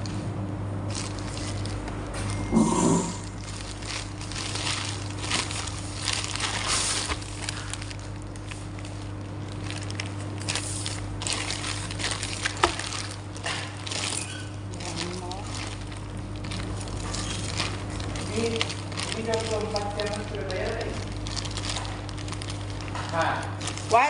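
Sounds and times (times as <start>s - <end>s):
steady low hum: 0.0s - 24.0s
packaging crinkling: 0.8s - 24.0s.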